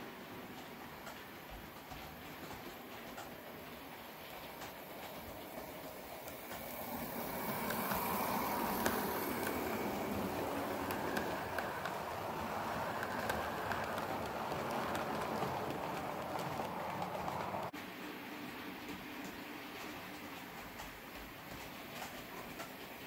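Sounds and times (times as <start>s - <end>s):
model train wheels clicking on track: 0.0s - 23.0s.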